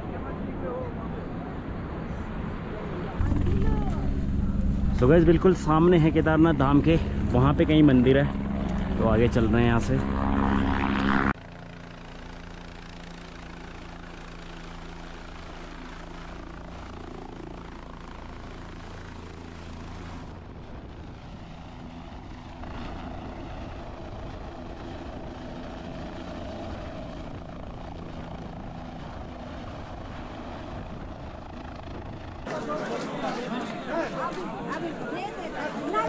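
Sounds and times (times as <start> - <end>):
helicopter rotor and engine: 0.0 - 36.0.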